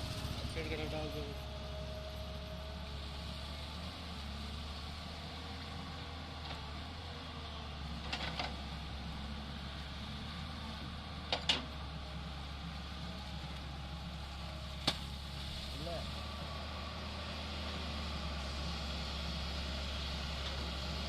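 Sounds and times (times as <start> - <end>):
excavator diesel engine humming: 0.0 - 21.0.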